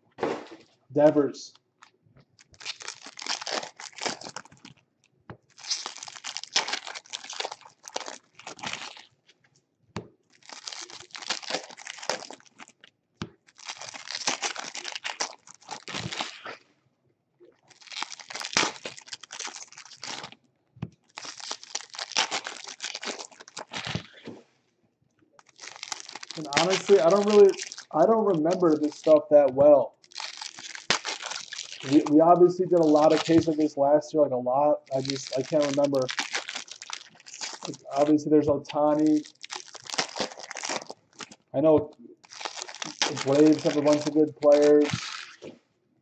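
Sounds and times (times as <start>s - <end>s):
wrappers tearing and crinkling: 1.8s - 4.8s, 5.5s - 9.2s, 10.3s - 12.8s, 13.4s - 16.6s, 17.6s - 20.4s, 21.0s - 24.5s, 25.4s - 33.8s, 34.8s - 38.2s, 38.8s - 45.6s.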